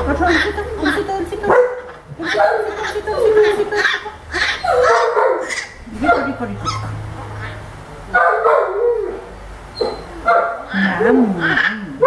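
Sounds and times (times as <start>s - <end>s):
baby monkey crying calls: 0.0s - 7.6s, 9.8s - 12.0s.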